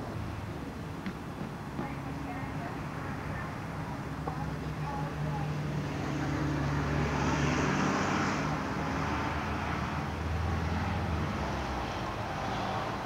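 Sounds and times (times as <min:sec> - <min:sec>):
bus engines humming: 0:00.0 - 0:13.0.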